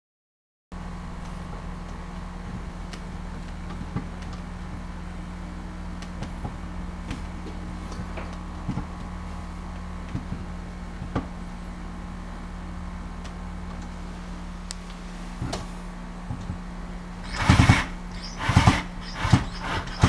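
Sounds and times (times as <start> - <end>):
steady low hum: 0.8 - 20.0.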